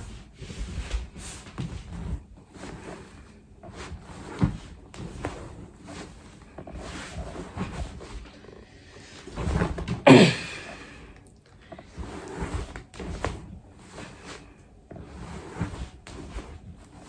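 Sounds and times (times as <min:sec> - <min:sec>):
body brushing on floorboards: 0:00.0 - 0:10.0, 0:11.7 - 0:17.0.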